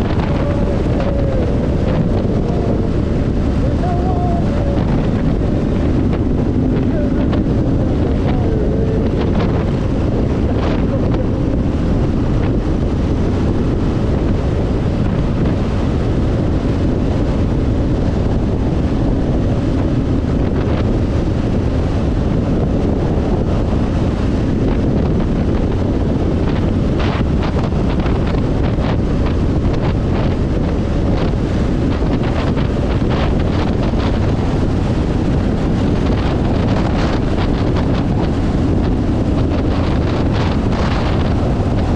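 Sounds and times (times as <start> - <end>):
motorcycle running: 0.0 - 41.9
wind rushing over microphone: 0.0 - 41.9.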